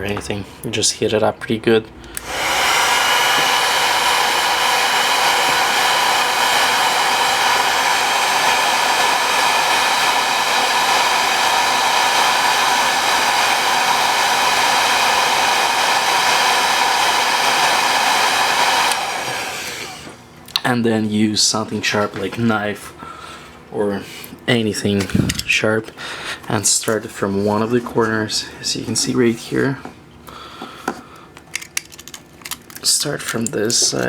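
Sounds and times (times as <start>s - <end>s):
hot-air blower fan whine: 2.0s - 31.8s.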